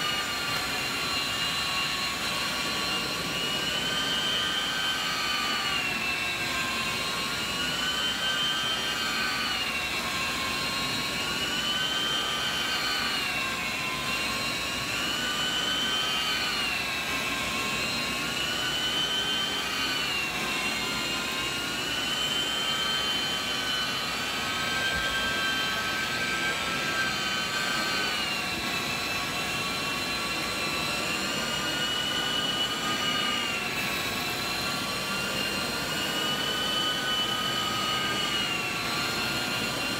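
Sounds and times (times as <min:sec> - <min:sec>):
vacuum extraction machine whine: 0:00.0 - 0:39.9.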